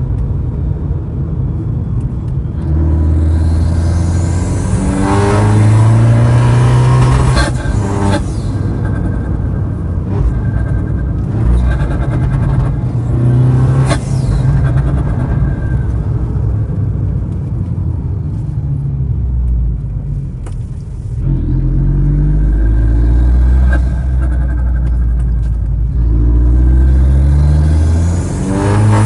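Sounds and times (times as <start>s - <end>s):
car engine from inside cabin: 0.0s - 29.0s
exhaust cracks: 2.0s - 18.5s, 19.4s - 29.0s.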